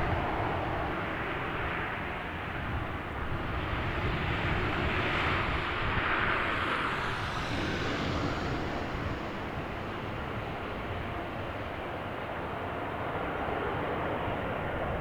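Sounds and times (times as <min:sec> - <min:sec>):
jet engines rumbling and roaring: 0:00.0 - 0:15.0.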